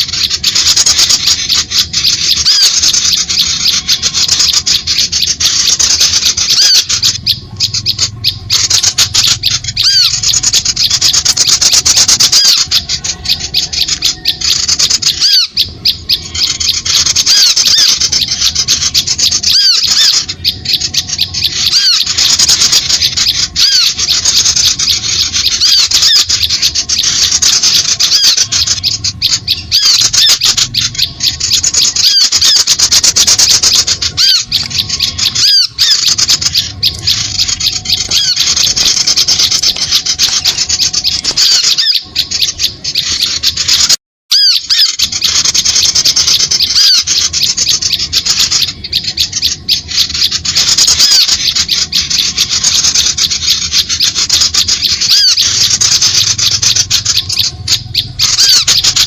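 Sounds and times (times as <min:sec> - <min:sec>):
recorded small bird calls: 0:00.0 - 0:59.0.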